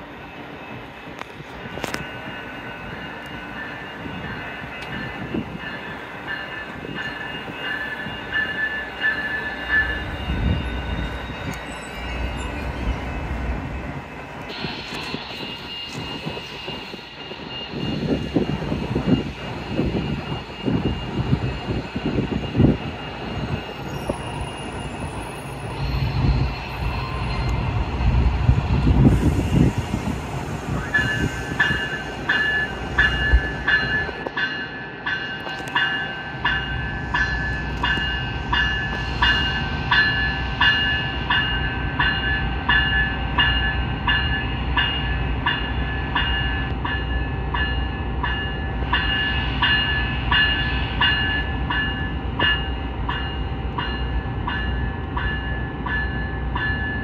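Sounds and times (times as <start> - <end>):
train engine rumble: 0.0 - 57.0.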